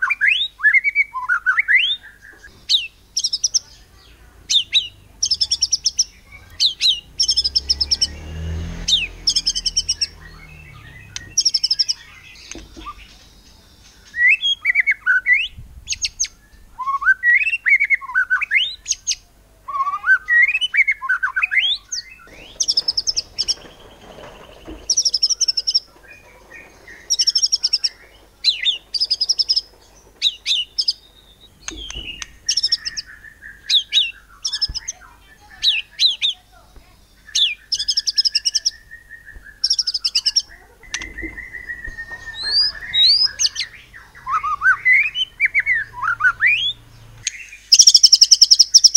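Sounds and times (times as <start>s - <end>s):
bird singing: 0.0s - 48.9s.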